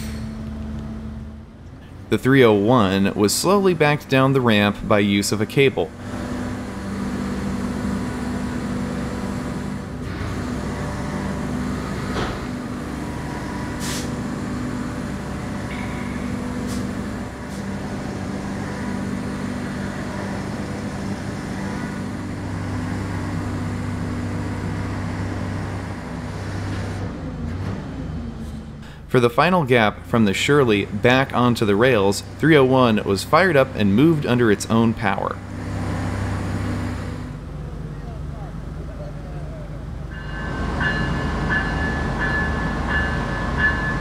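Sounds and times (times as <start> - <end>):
heavy equipment engine running: 0.0 - 44.0.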